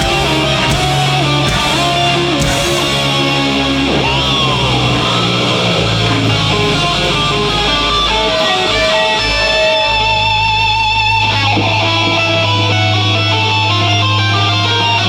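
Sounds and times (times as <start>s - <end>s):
electric guitar bending notes: 0.0s - 15.0s
heavy metal band playing live: 0.0s - 15.0s.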